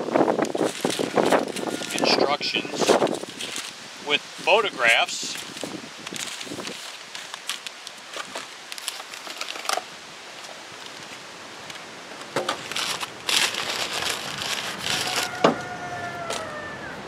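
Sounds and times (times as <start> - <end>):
paper packing crinkling: 0.4 - 11.2, 12.4 - 16.6.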